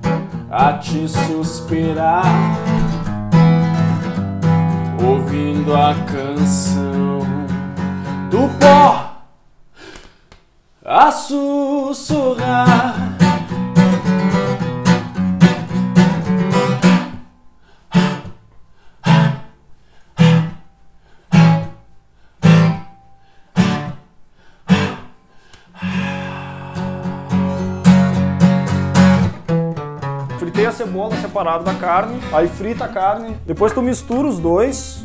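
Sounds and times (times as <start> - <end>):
acoustic guitar strumming: 0.0 - 9.1, 12.1 - 24.1, 24.7 - 35.0.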